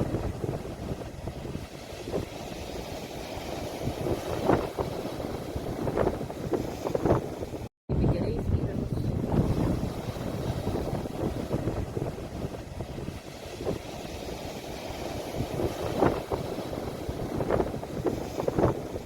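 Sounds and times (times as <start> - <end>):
surf rumbling: 0.0 - 19.0
waves splashing: 0.0 - 19.0
wind buffeting microphone: 0.0 - 19.0.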